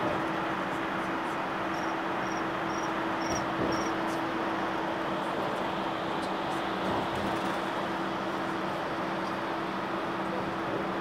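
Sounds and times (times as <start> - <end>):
road noise inside vehicle: 0.0 - 11.0.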